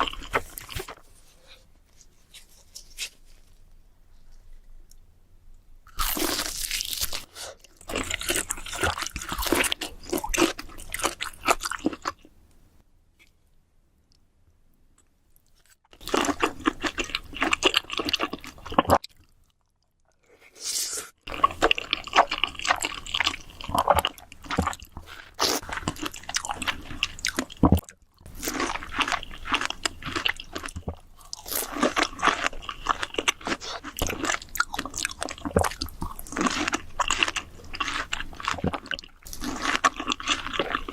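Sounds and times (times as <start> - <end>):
crunching and chewing crisp food: 0.0 - 1.6, 5.9 - 12.3, 15.4 - 20.5, 21.2 - 40.9.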